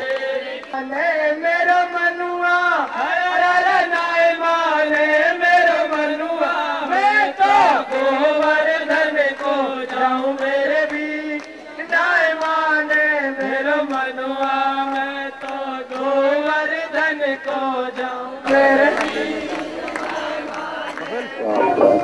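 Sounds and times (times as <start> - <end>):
group chanting in unison: 0.0 - 22.0.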